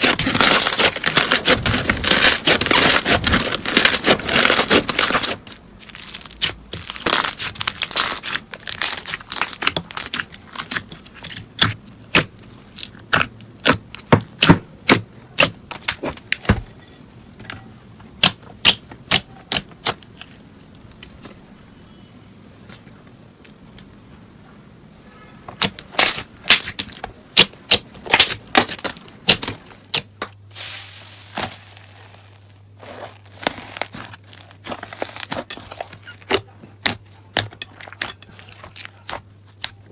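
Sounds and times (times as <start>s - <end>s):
slime crackling and popping: 0.0s - 16.5s, 18.2s - 21.2s, 25.6s - 39.9s.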